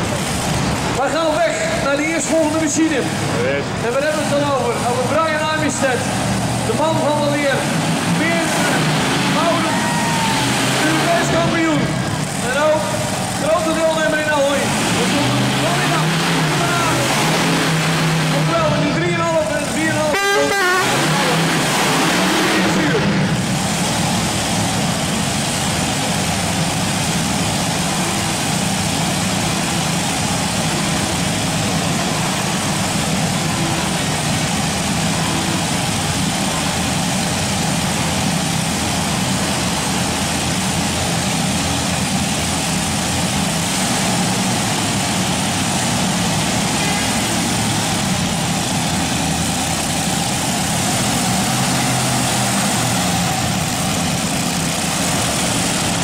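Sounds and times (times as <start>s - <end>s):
loud engine drone: 0.0s - 56.0s.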